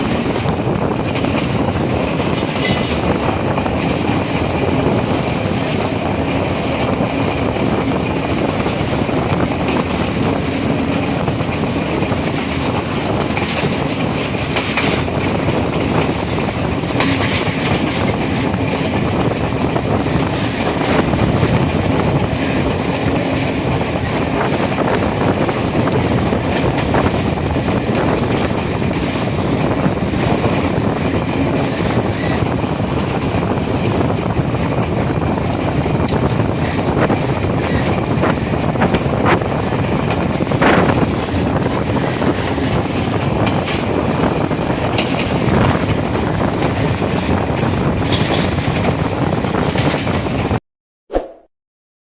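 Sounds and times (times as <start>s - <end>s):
train wheels rumbling on rails: 0.0s - 50.6s.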